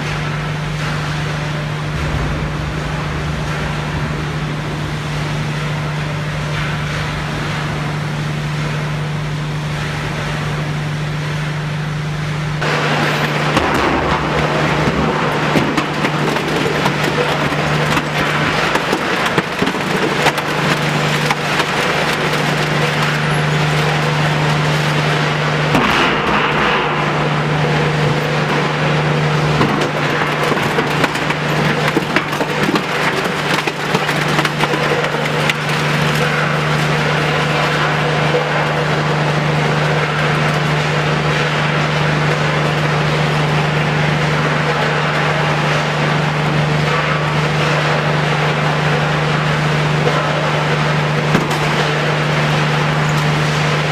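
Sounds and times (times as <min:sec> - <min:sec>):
metal shredder crunching steel drum: 0:00.0 - 0:10.5, 0:12.6 - 0:53.9
machinery humming: 0:00.0 - 0:53.9.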